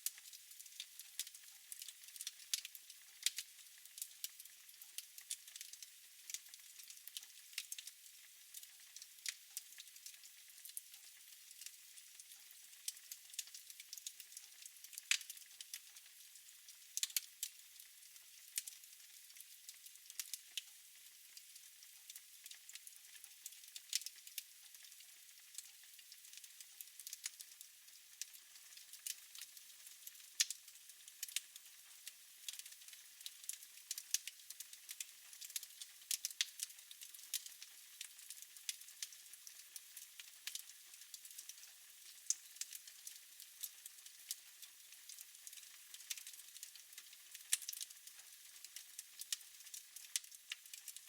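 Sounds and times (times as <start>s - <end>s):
fire crackling and popping: 0.1s - 7.9s, 8.5s - 10.9s, 11.5s - 16.3s, 17.0s - 20.6s, 21.6s - 27.5s, 28.2s - 31.5s, 32.4s - 51.0s.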